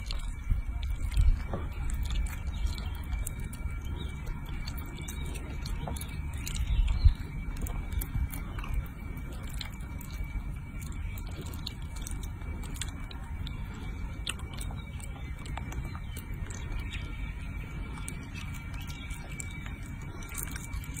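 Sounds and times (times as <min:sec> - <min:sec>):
low rumble: 0:00.0 - 0:21.0
monkey chewing and smacking: 0:00.0 - 0:21.0.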